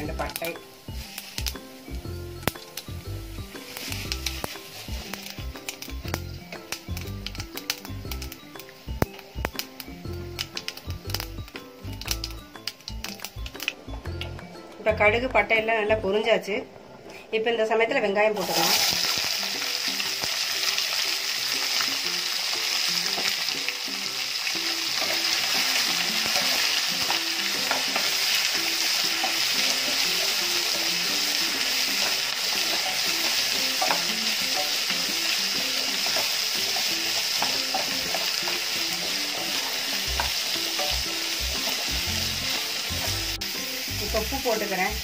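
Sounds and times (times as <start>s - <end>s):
onions sizzling in hot oil: 0.0s - 14.2s, 18.3s - 45.0s.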